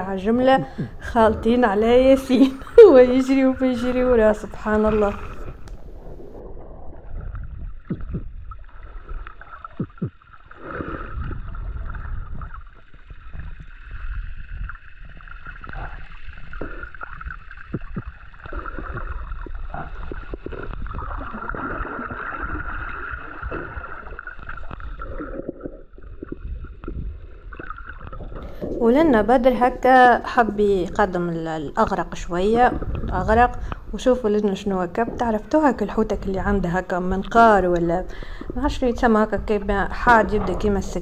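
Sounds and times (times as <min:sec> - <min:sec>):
steady hum: 0:00.0 - 0:41.0
water rushing and gurgling underwater: 0:00.0 - 0:41.0.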